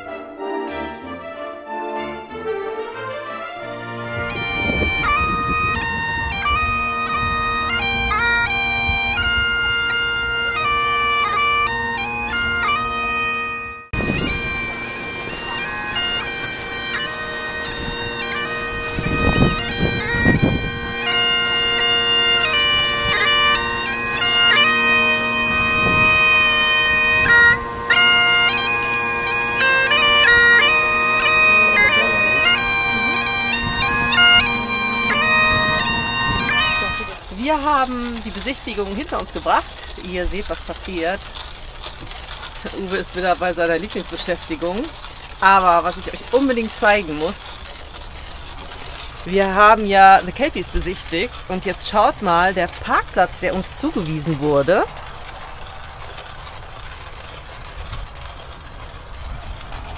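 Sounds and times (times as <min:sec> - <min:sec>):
bagpipes playing: 0:00.0 - 0:59.9.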